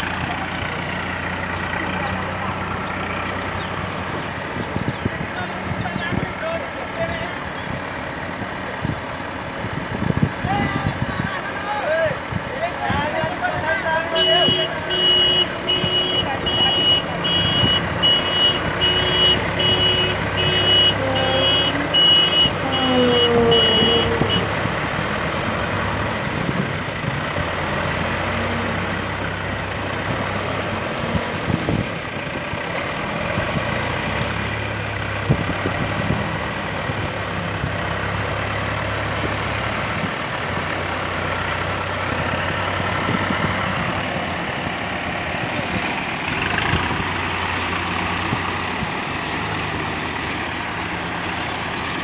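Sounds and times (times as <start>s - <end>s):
diesel engine running: 0.0s - 52.0s
reversing beeper: 0.0s - 52.0s.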